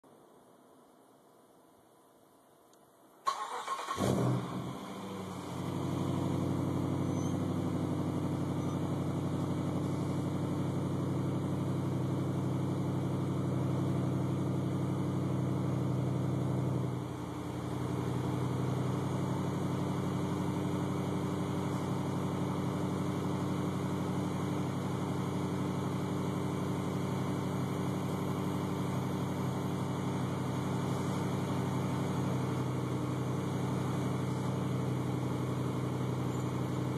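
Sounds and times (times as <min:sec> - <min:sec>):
car engine starting and idling: 0:03.2 - 0:36.9.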